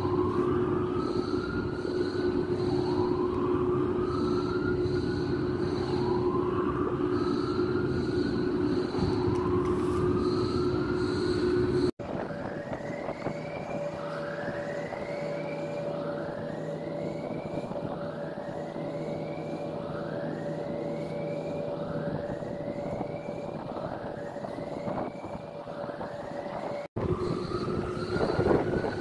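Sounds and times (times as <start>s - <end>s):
alarm siren whooping: 0.0s - 29.0s.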